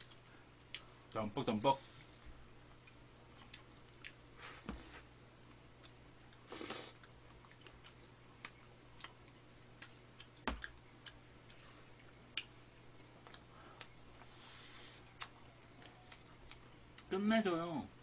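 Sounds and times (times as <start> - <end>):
chewing and eating sounds: 0.0 - 1.1, 1.8 - 17.1
faint low hum: 0.0 - 18.0.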